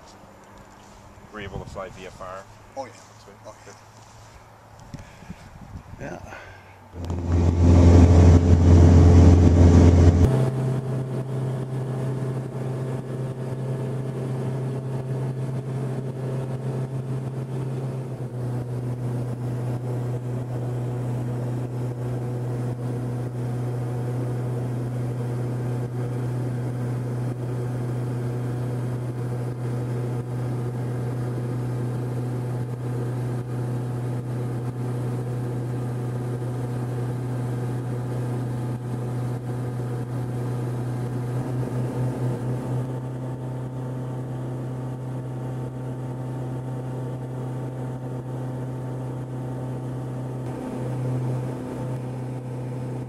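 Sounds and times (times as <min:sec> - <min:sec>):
airplane engine droning in cabin: 0:06.2 - 0:53.0.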